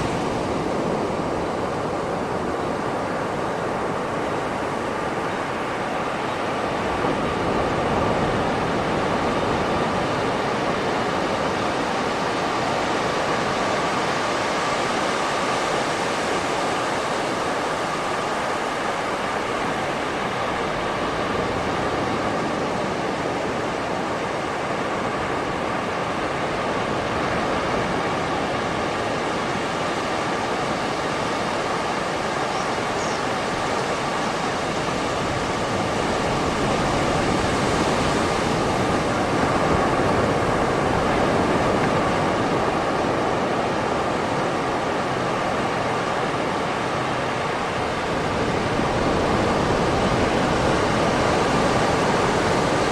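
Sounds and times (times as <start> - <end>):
waves washing on beach: 0.0 - 52.9.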